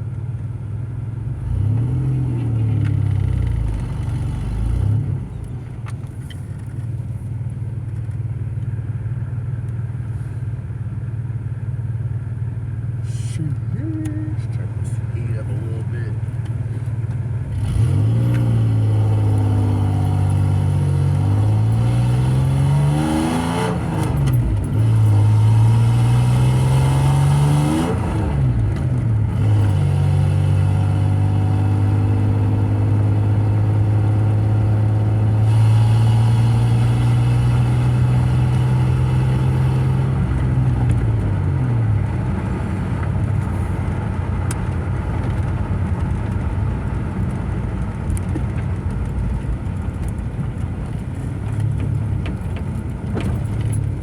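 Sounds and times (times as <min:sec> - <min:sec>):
car engine revving while driving: 0:01.2 - 0:05.9, 0:13.4 - 0:54.0.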